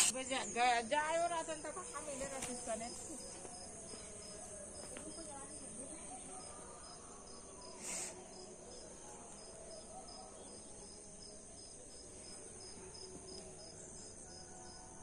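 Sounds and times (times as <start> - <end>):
insects droning and chirping: 0.0 - 15.0.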